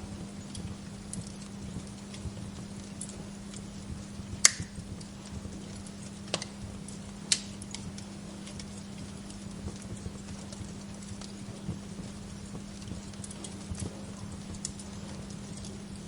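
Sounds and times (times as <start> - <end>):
steady low hum: 0.0 - 16.0
wood fire crackling: 0.0 - 16.0.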